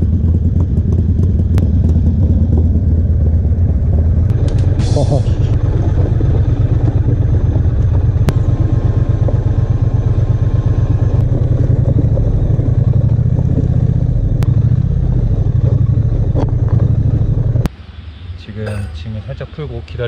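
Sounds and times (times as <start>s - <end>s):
motorcycle engine at low revs: 0.0s - 17.7s.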